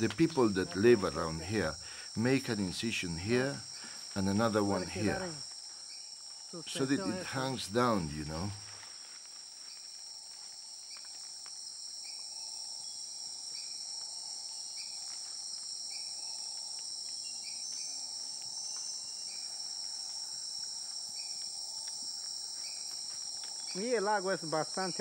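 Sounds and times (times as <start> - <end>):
high continuous insect shrill: 0.0 - 25.0
insect chirps: 0.0 - 25.0.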